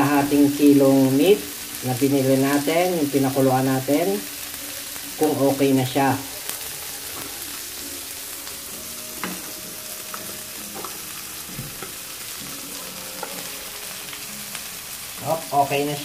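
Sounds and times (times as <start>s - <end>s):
meat sizzling in hot fat: 0.0s - 16.0s.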